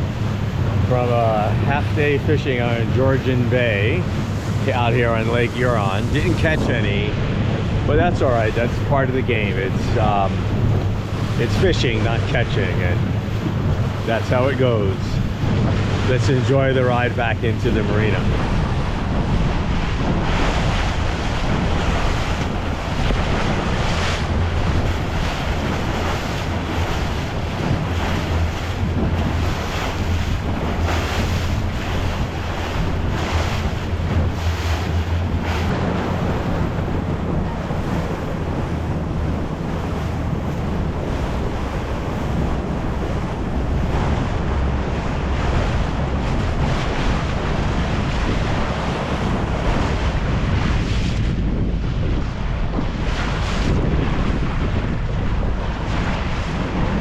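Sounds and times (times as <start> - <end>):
motorboat motor droning: 0.0 - 57.0
water rushing along hull: 0.0 - 57.0
wind buffeting microphone: 0.0 - 57.0.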